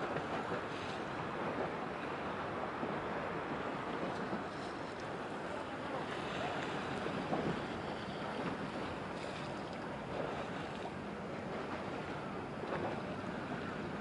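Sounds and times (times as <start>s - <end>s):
waves washing: 0.0s - 14.0s.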